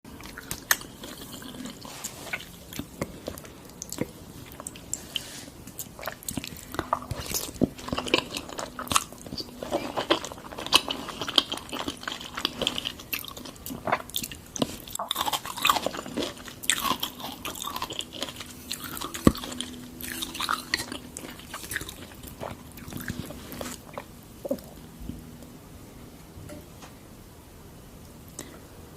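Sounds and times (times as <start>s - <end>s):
wet chewing: 0.1s - 25.4s.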